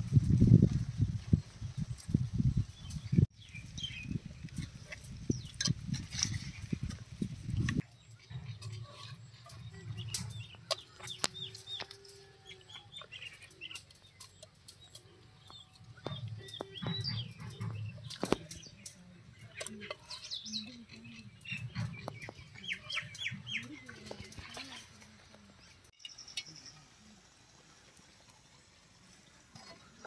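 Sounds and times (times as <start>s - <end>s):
small birds chirping: 1.3s - 30.0s.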